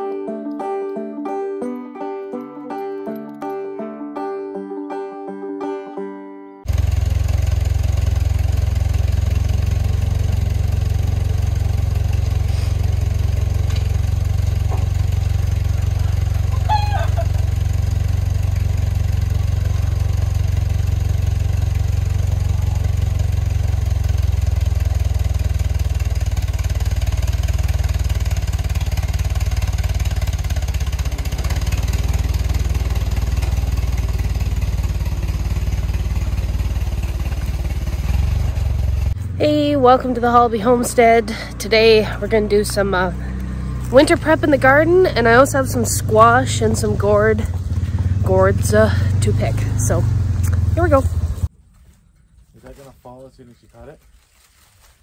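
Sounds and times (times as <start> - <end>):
tractor engine droning: 6.6 - 55.0.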